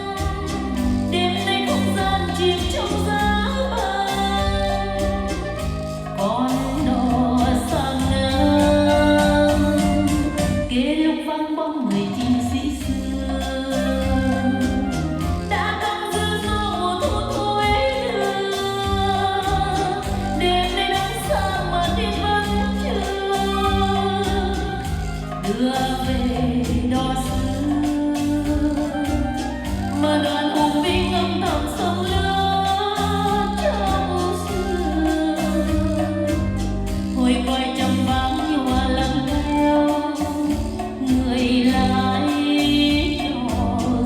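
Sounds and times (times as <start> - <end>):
ballad with bass beat and singing: 0.0 - 44.0.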